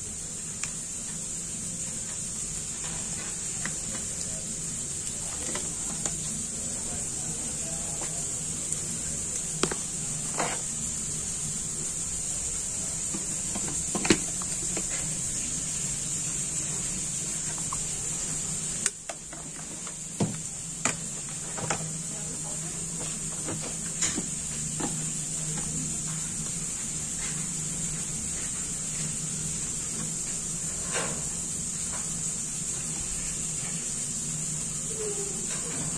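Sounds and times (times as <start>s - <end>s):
high hiss: 0.0s - 35.9s.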